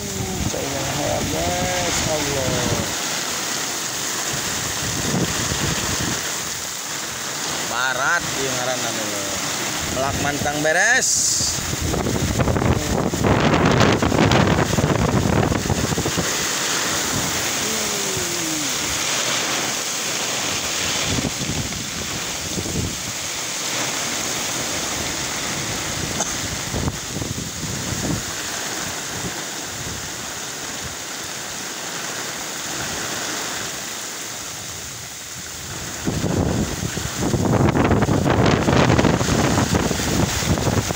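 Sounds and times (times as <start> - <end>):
wind gusts buffeting microphone: 0.0 - 31.0, 34.4 - 40.9
heavy rain rushing: 0.0 - 40.9.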